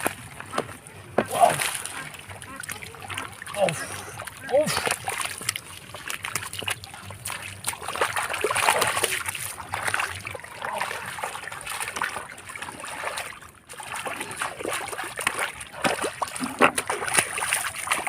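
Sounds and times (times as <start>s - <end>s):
shallow water splashing: 0.0s - 18.0s.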